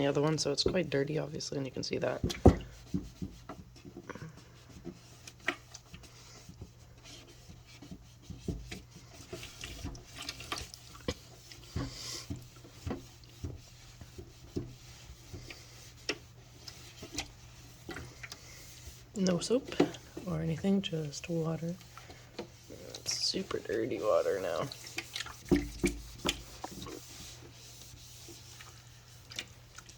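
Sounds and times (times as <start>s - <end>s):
cloth rubbing and scrubbing: 0.0s - 29.9s.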